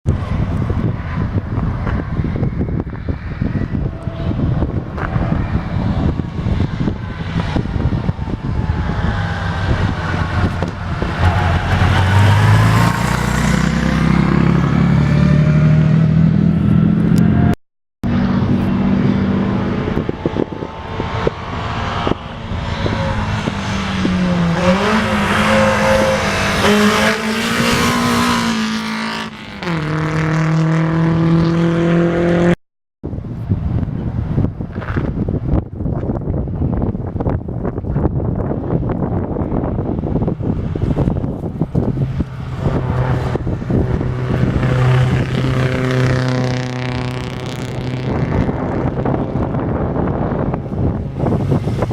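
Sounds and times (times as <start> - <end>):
racing car engines passing: 0.2 - 32.6, 39.6 - 51.9.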